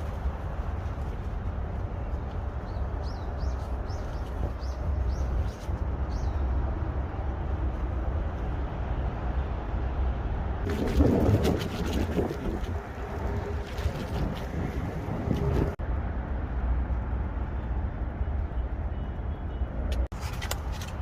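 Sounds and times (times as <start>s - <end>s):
low rumbling outdoor noise: 0.0s - 21.0s.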